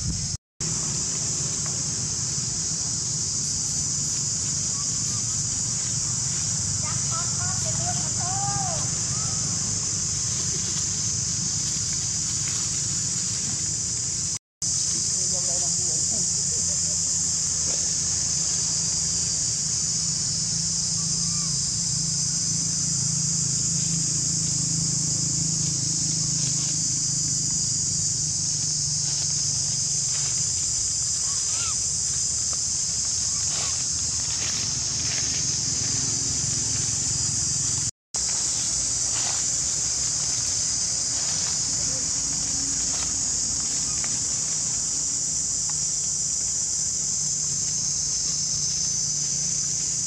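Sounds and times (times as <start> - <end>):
high-pitched insect chorus: 0.0 - 50.0.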